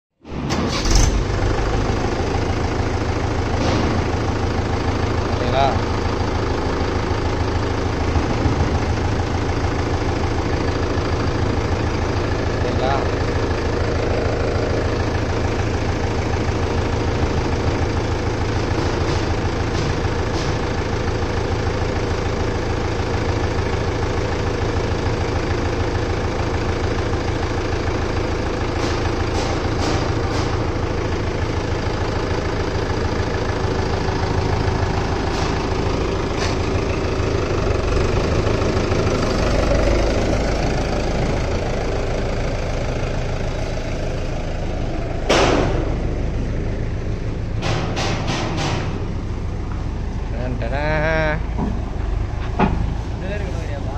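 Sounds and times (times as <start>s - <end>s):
tractor diesel engine idling: 0.2s - 53.9s.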